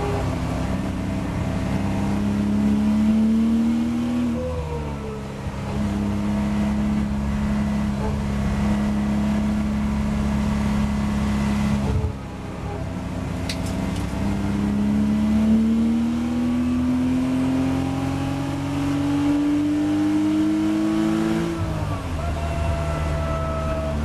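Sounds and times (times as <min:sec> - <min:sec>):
race car engine under throttle: 0:00.0 - 0:24.0.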